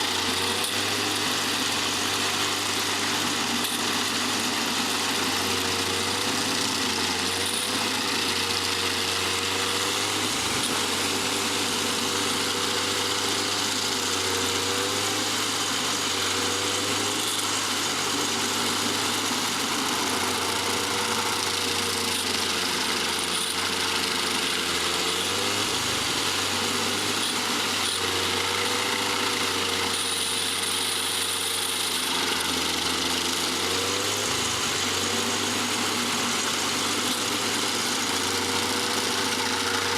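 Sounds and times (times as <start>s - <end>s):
stump grinder engine: 0.0s - 39.9s.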